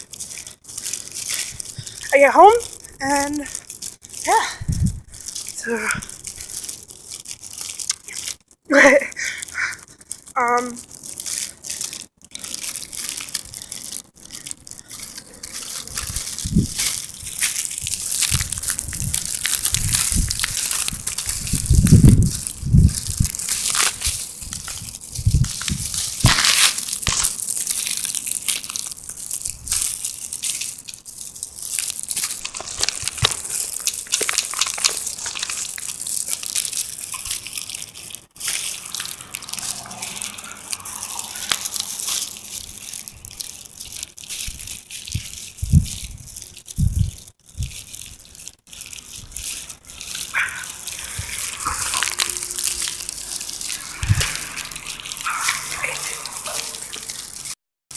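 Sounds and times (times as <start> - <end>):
small crackles: 0.0 - 57.6.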